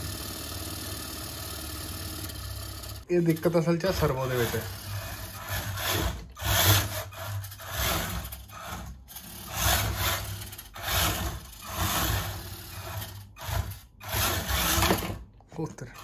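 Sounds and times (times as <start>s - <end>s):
electric motor and gears whirring: 0.0s - 16.0s.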